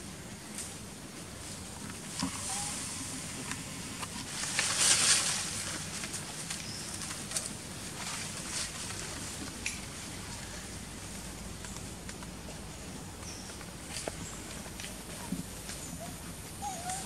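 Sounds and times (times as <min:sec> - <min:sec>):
leaves and twigs rustling: 0:00.0 - 0:17.0
steady outdoor hiss: 0:00.0 - 0:17.0.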